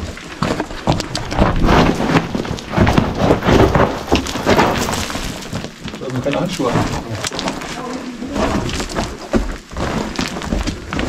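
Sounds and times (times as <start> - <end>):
footsteps crunching on gravel: 0.0 - 11.0.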